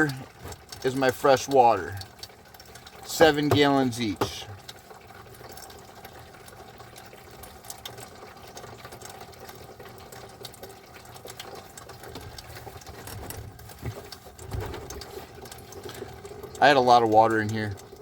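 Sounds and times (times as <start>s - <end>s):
small water pump running: 0.0s - 18.0s.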